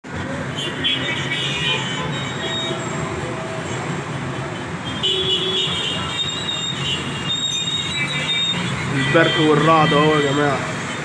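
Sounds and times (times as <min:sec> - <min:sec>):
traffic on a flooded road: 0:00.0 - 0:11.0.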